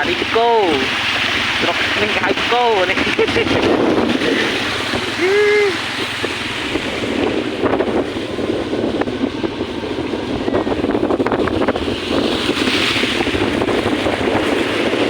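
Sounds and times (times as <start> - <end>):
rushing splashing floodwater: 0.0 - 15.0
wind buffeting microphone: 0.0 - 15.0.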